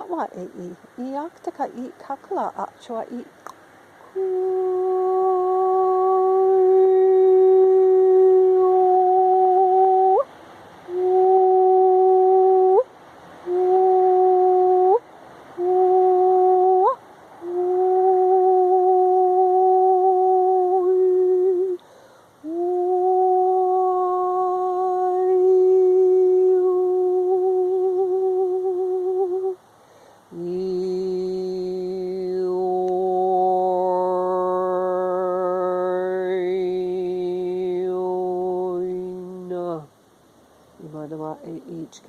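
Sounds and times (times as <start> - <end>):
woman toning long held notes: 4.0 - 10.3, 10.9 - 15.0, 15.6 - 29.6, 30.3 - 39.9.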